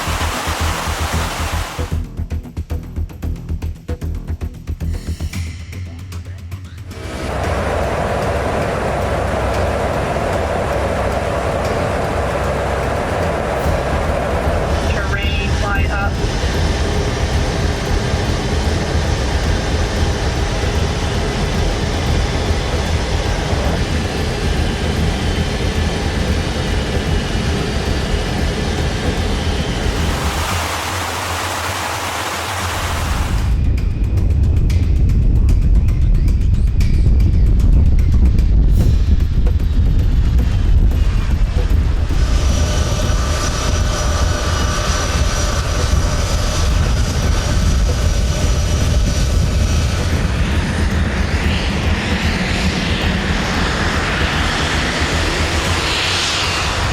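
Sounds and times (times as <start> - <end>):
jet engine noise: 0.0 - 2.0, 6.9 - 35.8, 36.7 - 56.9.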